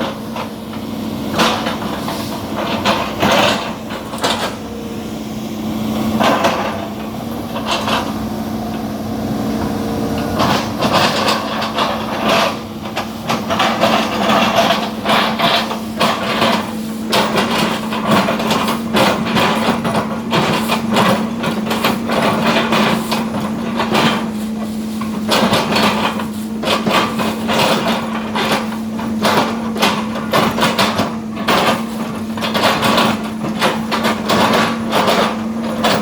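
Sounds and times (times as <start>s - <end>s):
excavator engine droning: 0.0s - 36.0s.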